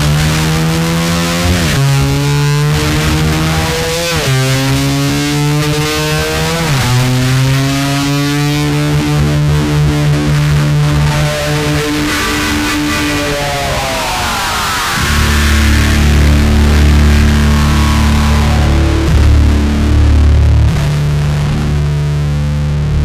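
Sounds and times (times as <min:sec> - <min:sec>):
distorted slide electric guitar: 0:00.0 - 0:23.0.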